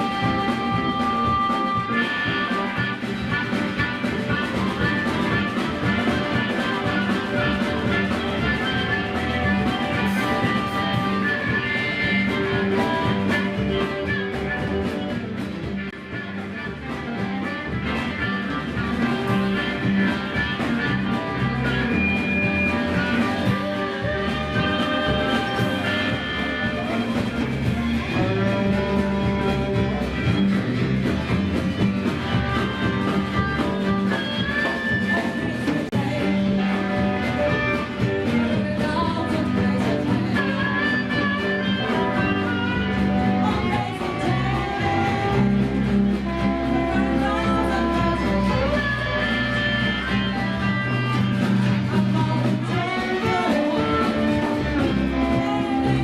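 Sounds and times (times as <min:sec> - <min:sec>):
band music with guitar: 0:00.0 - 0:56.0.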